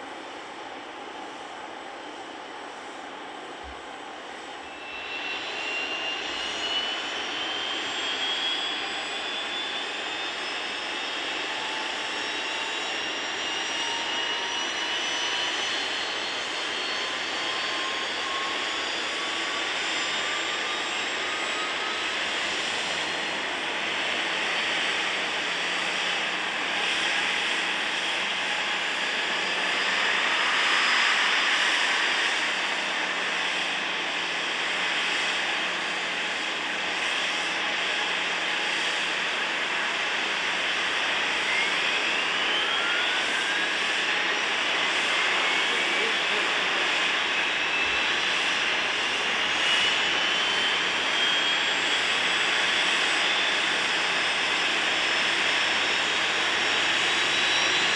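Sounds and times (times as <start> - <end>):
jet engine whine rising: 0.0 - 57.9.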